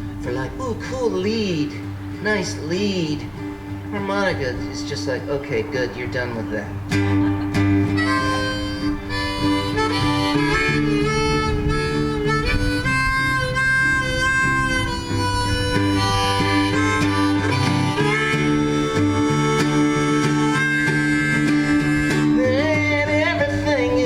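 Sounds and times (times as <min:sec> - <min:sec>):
acoustic guitar: 0:00.0 - 0:24.0
harmonica melody: 0:01.4 - 0:24.0.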